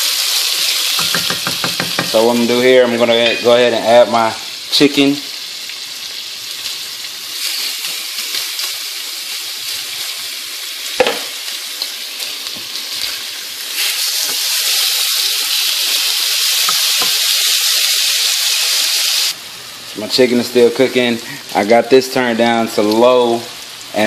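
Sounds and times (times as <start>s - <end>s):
chicken sizzling in oil: 0.0s - 24.0s.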